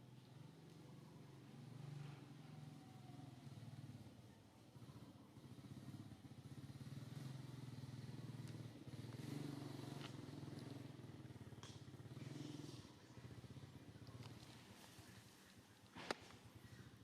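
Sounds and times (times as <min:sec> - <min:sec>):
engine humming with pulsing rumble: 0:00.0 - 0:17.0.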